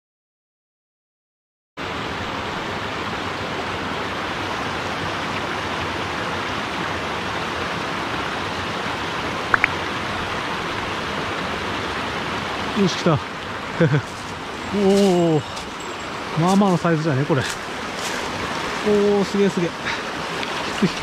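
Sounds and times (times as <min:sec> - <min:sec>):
stream rushing over rocks: 0:01.8 - 0:21.0.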